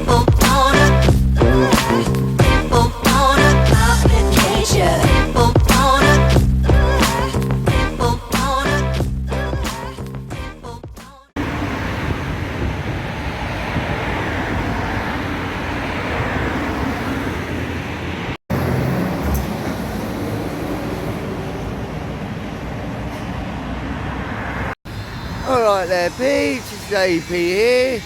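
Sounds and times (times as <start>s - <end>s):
road traffic noise: 0.0s - 8.3s, 11.4s - 28.0s.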